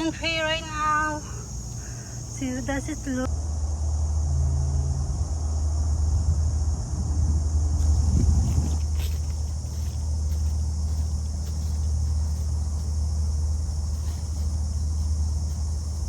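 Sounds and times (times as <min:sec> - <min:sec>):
continuous low rumble: 0:00.0 - 0:16.0
high-pitched insect chorus: 0:00.0 - 0:16.0.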